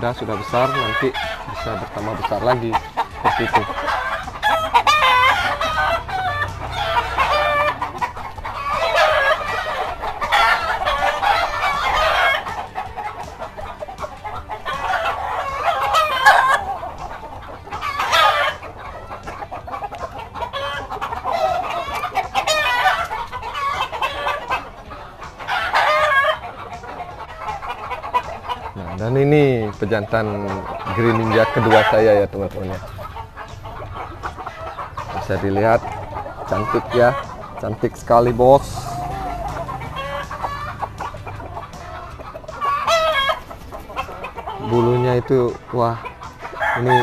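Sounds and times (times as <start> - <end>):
chickens clucking: 0.0 - 47.0
roosters crowing: 0.0 - 47.0.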